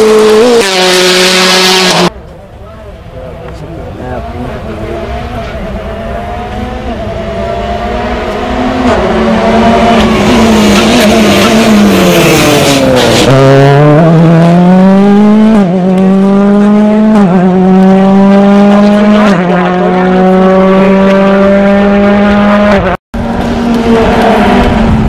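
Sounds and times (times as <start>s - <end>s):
rally car engine accelerating: 0.0s - 2.1s, 3.7s - 25.0s.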